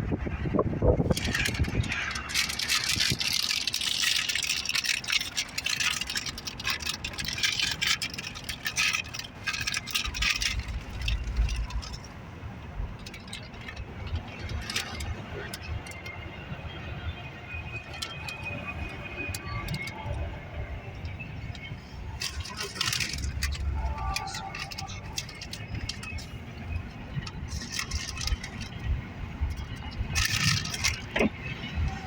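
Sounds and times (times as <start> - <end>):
low train rumble: 0.0 - 32.0
train cars rattling and clicking: 0.0 - 32.0.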